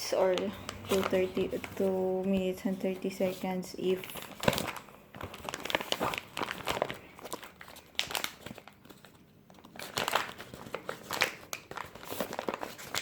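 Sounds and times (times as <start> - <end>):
popcorn bag crinkling: 0.0 - 13.0.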